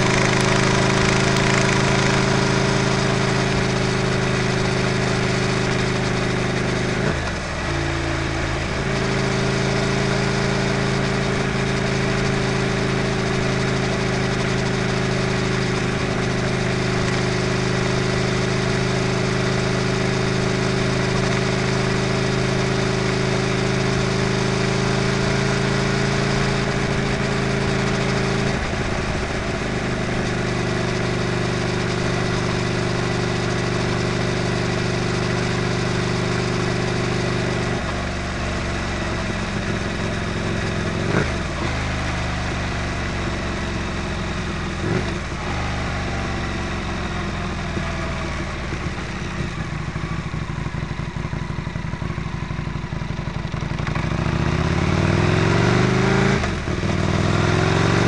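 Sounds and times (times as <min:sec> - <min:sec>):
motorcycle engine cruising: 0:00.0 - 0:58.0
wind and road rush: 0:00.0 - 0:58.0.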